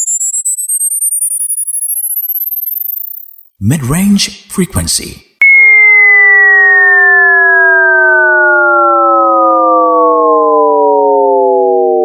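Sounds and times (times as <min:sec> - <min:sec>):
falling synthesized test tone: 0:00.0 - 0:03.5, 0:05.4 - 0:12.0.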